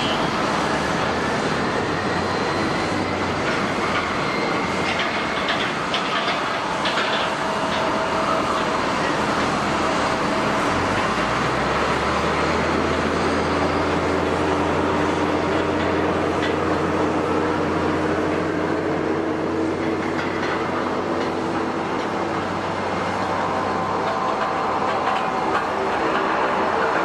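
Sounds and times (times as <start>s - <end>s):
faint engine whine: 0.0s - 27.0s
jet engines rushing: 0.0s - 27.0s.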